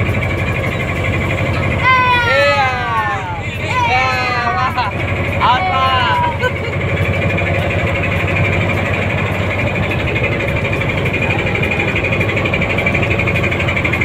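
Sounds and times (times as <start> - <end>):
boat engine pulsing: 0.0 - 14.0.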